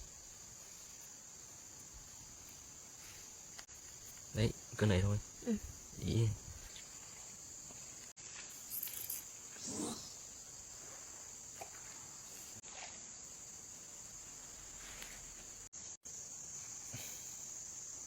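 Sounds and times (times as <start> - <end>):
crickets and insects chorus: 0.0 - 18.0.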